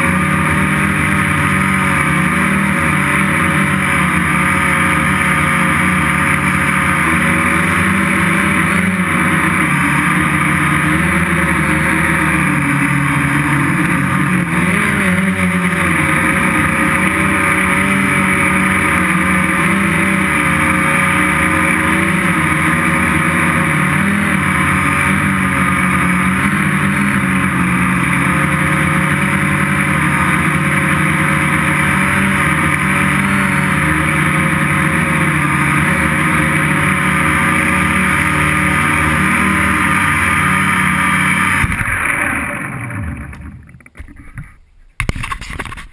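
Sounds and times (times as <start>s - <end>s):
quadcopter motors and propellers: 0.0s - 45.9s.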